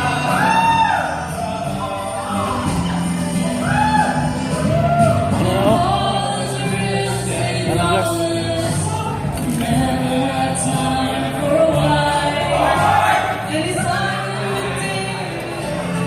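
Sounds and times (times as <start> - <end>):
singing voices: 0.0 - 16.0
steady bass line: 0.0 - 16.0.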